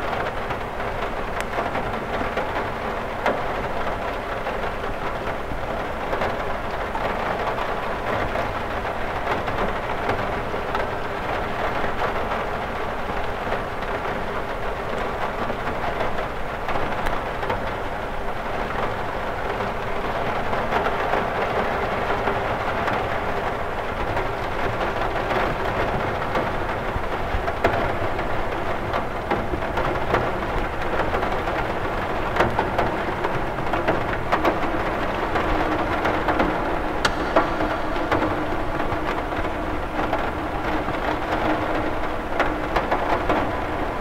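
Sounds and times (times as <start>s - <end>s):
rush of rain: 0.0s - 44.0s
rain drops ticking on glass: 0.1s - 44.0s.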